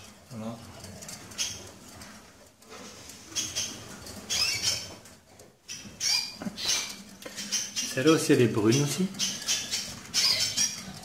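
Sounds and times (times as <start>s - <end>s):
canaries chirping: 0.0s - 2.1s, 2.8s - 11.0s.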